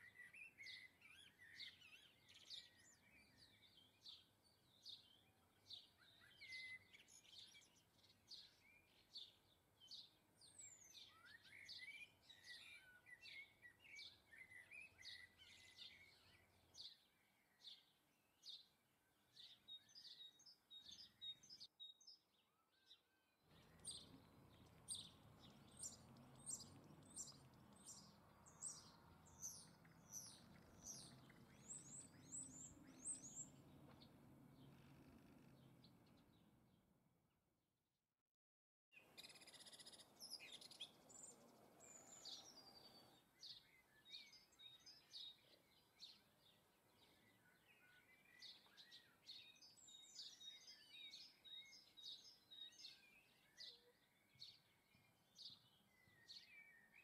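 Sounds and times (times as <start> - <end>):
songbirds chirping: 0.0 - 37.2, 39.0 - 57.0.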